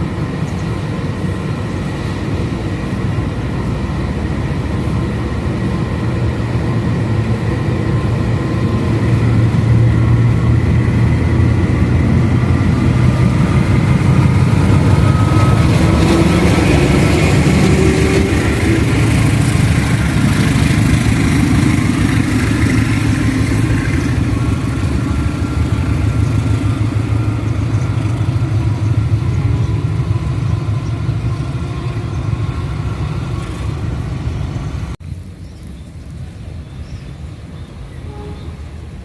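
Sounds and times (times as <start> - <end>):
locomotive diesel engine rumbling: 0.0 - 35.0.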